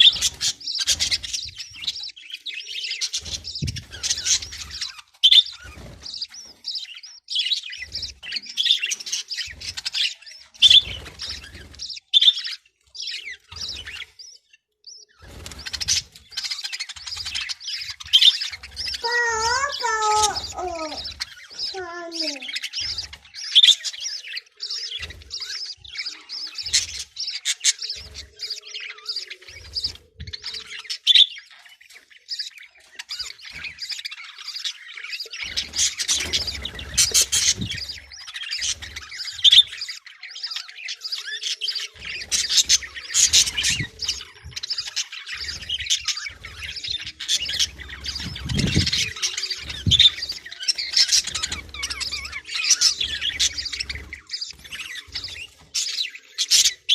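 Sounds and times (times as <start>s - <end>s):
parrots chirping and squawking: 0.0s - 56.9s.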